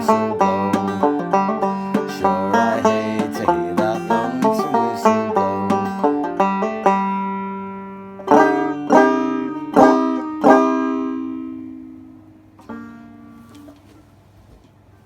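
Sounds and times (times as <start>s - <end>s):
banjo picked notes and strummed chords: 0.0s - 13.7s.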